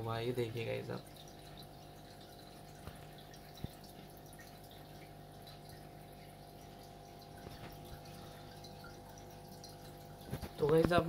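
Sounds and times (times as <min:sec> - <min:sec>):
aquarium water bubbling: 0:00.0 - 0:11.0
low electric hum: 0:00.0 - 0:11.0.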